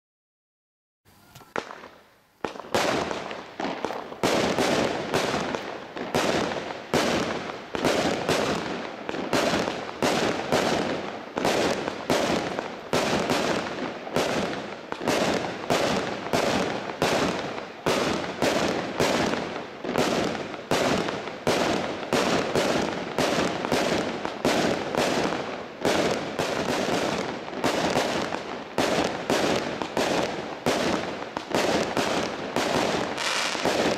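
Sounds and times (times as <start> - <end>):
firework crackling: 1.1 - 33.9
firework launches and bursts: 1.4 - 33.9.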